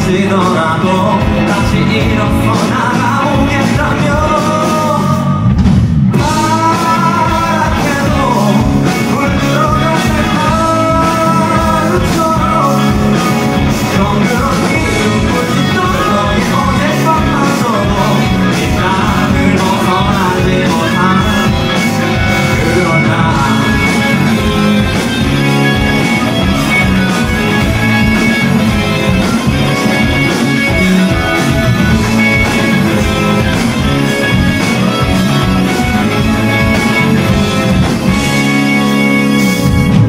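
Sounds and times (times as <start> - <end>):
person singing: 0.0 - 5.4, 6.2 - 38.4
drum kit beat: 0.0 - 40.0
rock band playing: 0.0 - 40.0.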